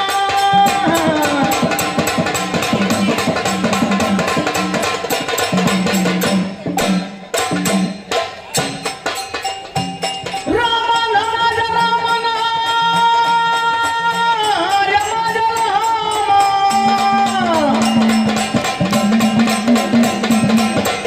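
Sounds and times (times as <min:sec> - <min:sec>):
rapid drumming: 0:00.0 - 0:21.0.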